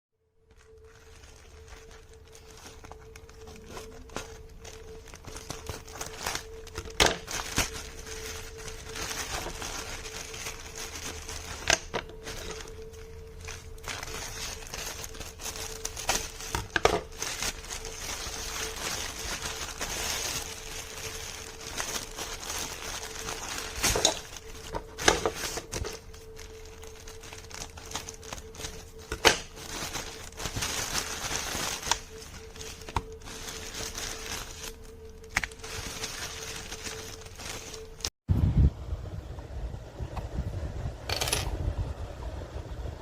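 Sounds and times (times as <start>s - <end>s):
faint steady hum: 0.2s - 43.0s
crinkling and rustling: 0.4s - 38.2s.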